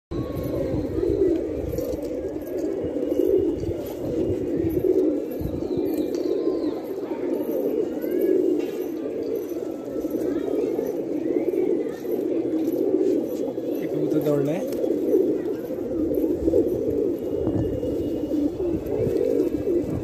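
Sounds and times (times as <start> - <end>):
pigeons cooing: 0.1 - 20.0.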